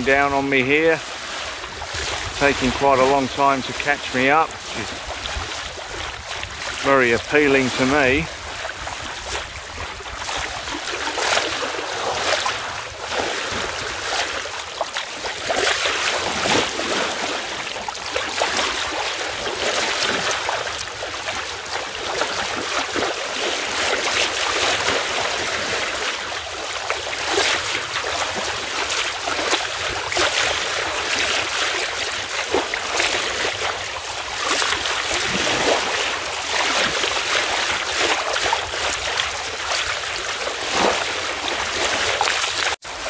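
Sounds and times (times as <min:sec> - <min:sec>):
water splashing along boat hull: 0:00.0 - 0:43.0.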